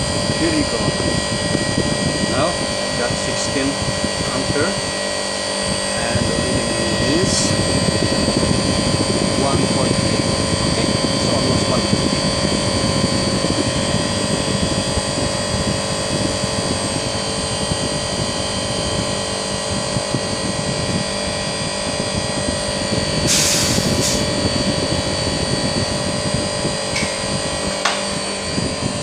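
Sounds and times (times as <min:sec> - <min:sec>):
air conditioner unit humming: 0:00.0 - 0:29.0.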